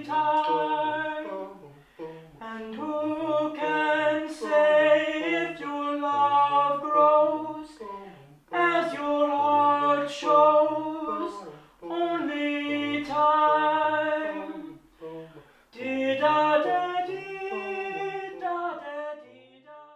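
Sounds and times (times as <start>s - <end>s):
a cappella harmony singing: 0.0s - 19.9s.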